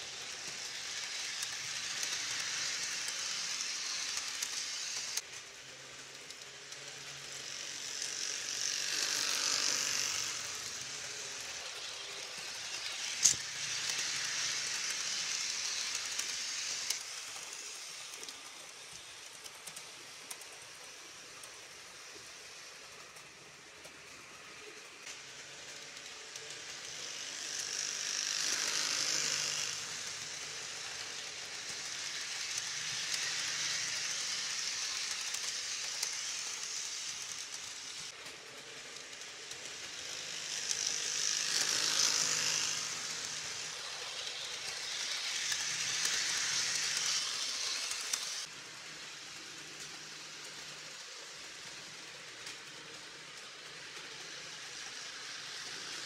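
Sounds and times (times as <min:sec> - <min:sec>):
model train rattling on track: 0:00.0 - 0:56.0.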